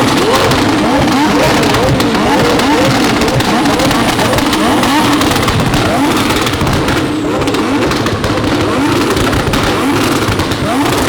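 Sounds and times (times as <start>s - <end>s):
car engines revving hard: 0.0s - 11.0s
exhaust pops crackling: 0.0s - 11.0s.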